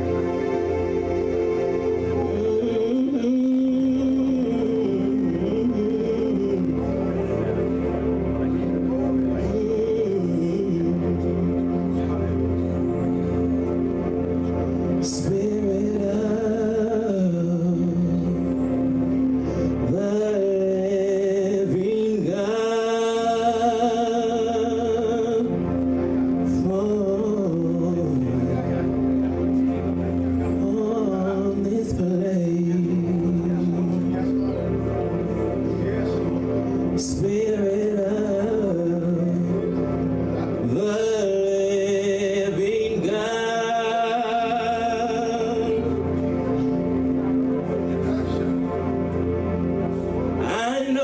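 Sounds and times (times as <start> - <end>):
person singing long notes: 0.0 - 51.0
sustained instrumental chords: 0.0 - 51.0.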